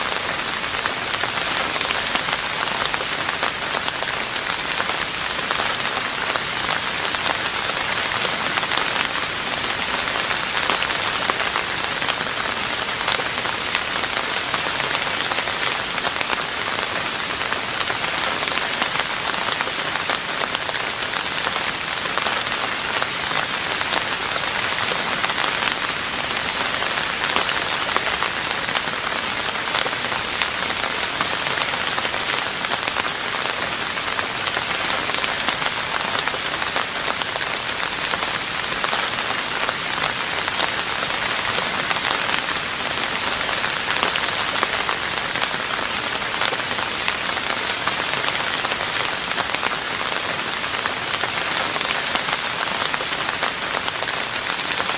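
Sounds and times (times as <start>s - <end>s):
rain on a roof: 0.0s - 54.9s.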